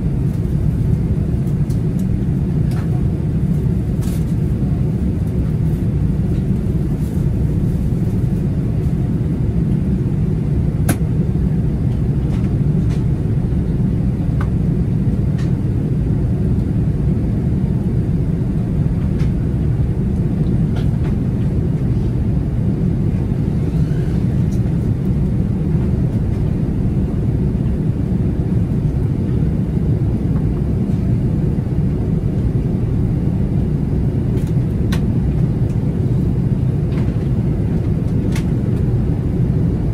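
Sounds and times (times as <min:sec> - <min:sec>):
aircraft engine and airflow noise: 0:00.0 - 0:39.9.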